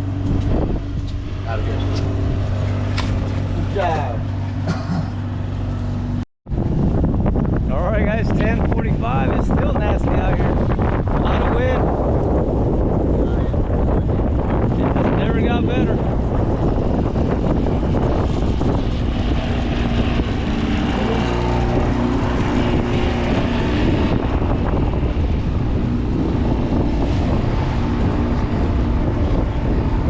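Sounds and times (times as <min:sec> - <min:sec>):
boat engine rumbling: 0:00.0 - 0:30.0
wind buffeting microphone: 0:00.0 - 0:30.0.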